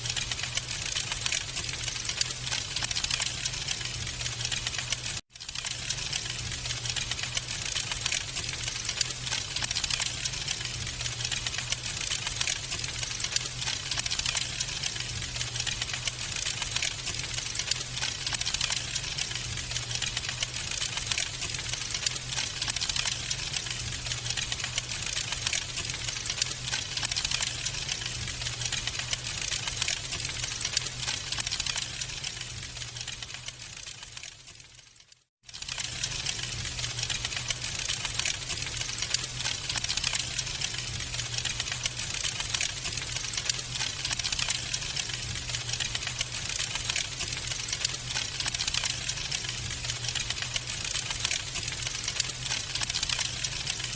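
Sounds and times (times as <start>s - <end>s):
low rumble of flames: 0.0s - 33.4s, 35.6s - 53.9s
wood fire crackling: 0.0s - 53.9s.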